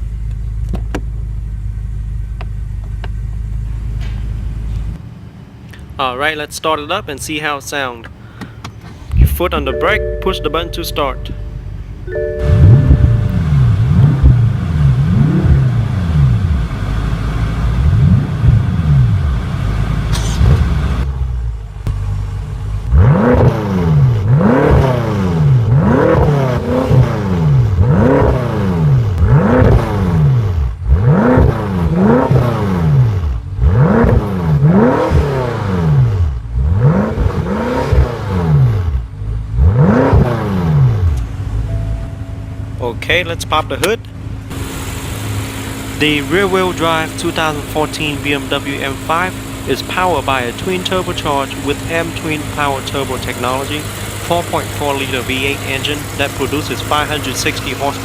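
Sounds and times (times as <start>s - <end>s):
car engine revving: 8.0s - 58.0s.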